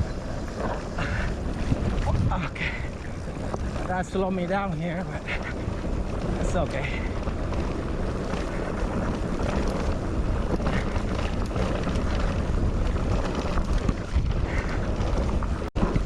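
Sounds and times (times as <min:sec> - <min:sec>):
bike rumbling and rattling on dirt: 0:00.0 - 0:16.0
wind buffeting microphone: 0:00.0 - 0:16.0.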